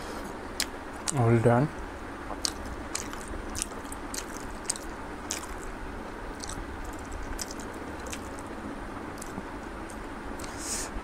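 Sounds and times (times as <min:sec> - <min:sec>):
steady background hiss: 0:00.0 - 0:11.0
person chewing food: 0:00.6 - 0:01.2, 0:01.8 - 0:10.8.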